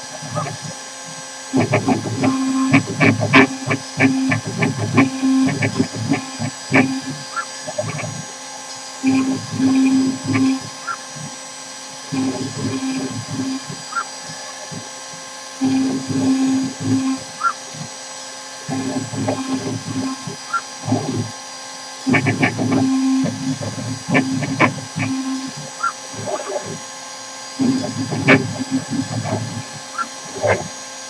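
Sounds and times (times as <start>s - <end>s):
router cutting wood: 0.0s - 31.0s
router spindle whine: 0.0s - 31.0s.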